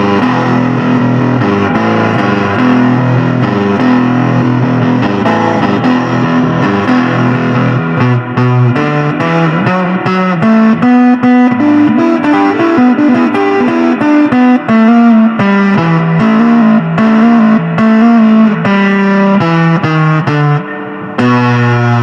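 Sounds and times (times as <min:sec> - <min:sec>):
distorted electric guitar lead: 0:00.0 - 0:22.0.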